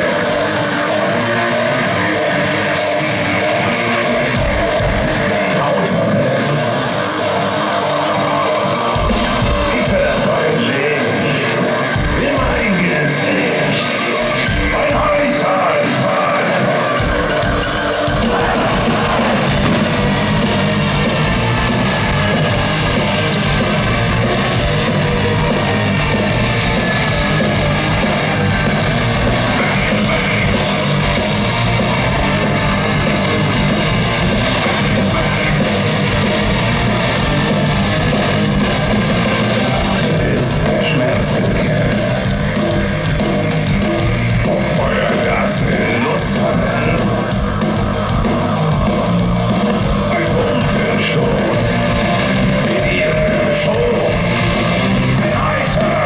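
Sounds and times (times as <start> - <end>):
live heavy metal band: 0.0 - 56.0.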